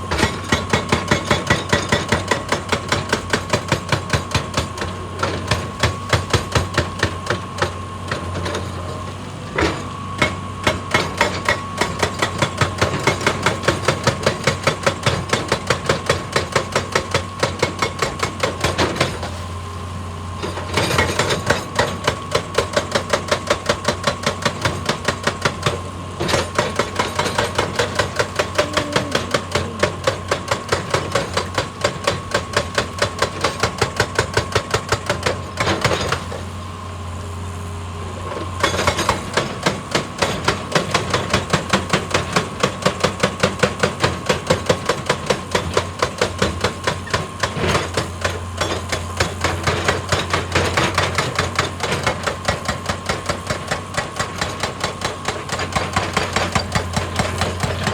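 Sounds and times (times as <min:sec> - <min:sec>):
hydraulic breaker hammering rock: 0:00.0 - 0:19.6, 0:20.3 - 0:36.6, 0:38.1 - 0:57.9
excavator engine running: 0:00.0 - 0:57.9.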